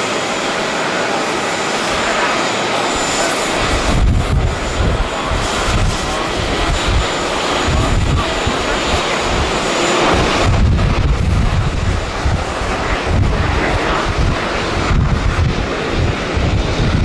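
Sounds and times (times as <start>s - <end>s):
jet engines taking off: 0.0s - 17.0s
wind buffeting microphone: 1.8s - 17.0s.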